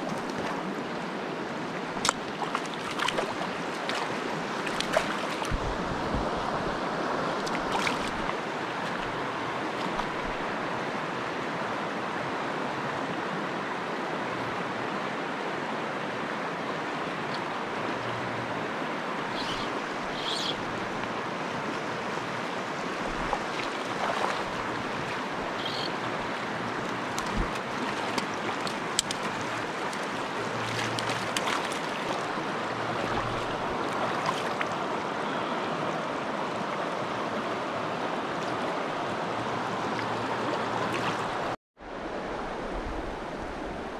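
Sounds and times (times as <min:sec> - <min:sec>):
stream running over rocks: 0:00.0 - 0:42.5.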